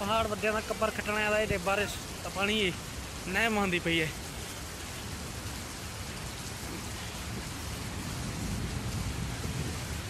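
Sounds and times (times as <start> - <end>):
floodwater rushing over stones: 0.0 - 10.0.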